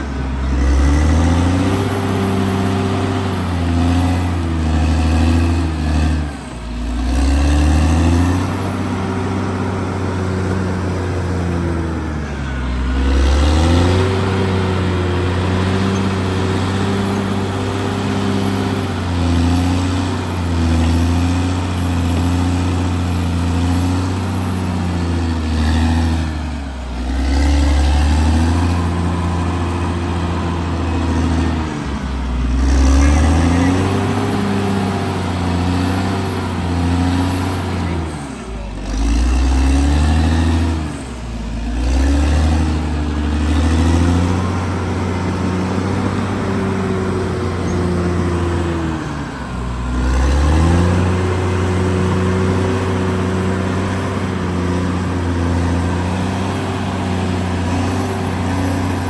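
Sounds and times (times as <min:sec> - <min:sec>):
bulldozer diesel engine running hard: 0:00.0 - 0:59.0.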